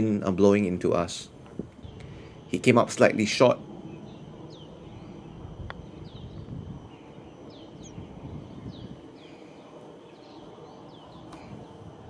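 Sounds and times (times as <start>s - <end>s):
low outdoor rumble: 0.0s - 12.0s
birds calling with downward notes: 1.7s - 12.0s.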